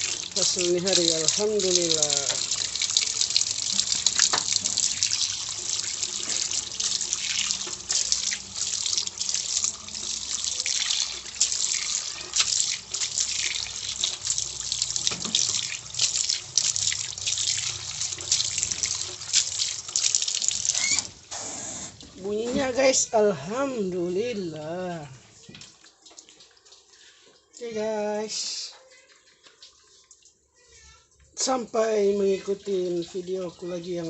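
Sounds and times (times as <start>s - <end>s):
small splashes and drips: 0.0s - 34.0s
water splashing and trickling: 0.0s - 34.0s.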